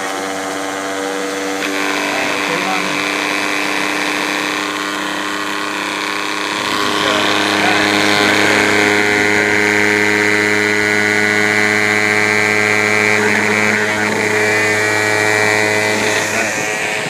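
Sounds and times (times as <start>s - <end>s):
pitching machine motor humming: 0.0s - 17.0s.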